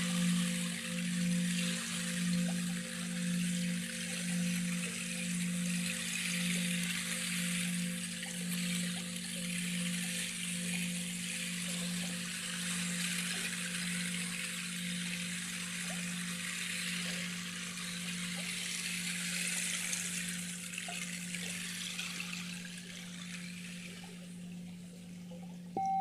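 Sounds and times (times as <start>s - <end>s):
low pulsing hum: 0.0s - 26.0s
running water: 0.0s - 26.0s.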